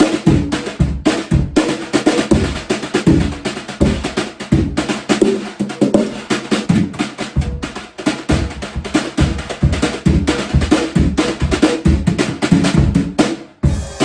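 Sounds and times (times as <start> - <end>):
kick drum thumps: 0.0 - 13.9
snare and tom hits: 0.0 - 14.0.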